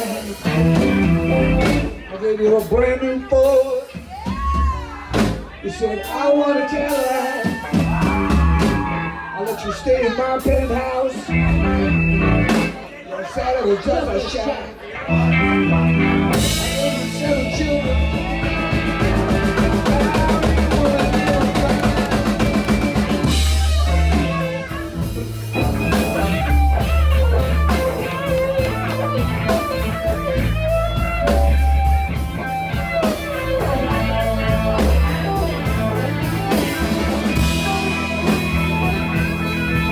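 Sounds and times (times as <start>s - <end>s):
electric guitar lead: 0.0s - 2.0s, 6.9s - 12.8s, 15.0s - 39.9s
rock band playing: 0.0s - 39.9s.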